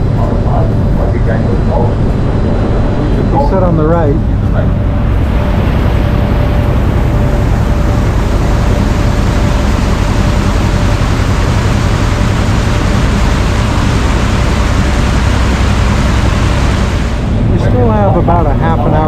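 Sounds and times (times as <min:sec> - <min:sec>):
boat engine rumble: 0:00.0 - 0:19.0
faint steady hum: 0:00.0 - 0:19.0
water rushing past boat: 0:01.6 - 0:19.0.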